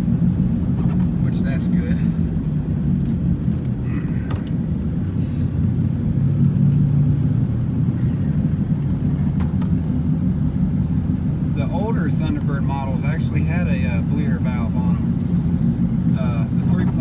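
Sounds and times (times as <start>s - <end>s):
car engine drone inside cabin: 0.0s - 17.0s.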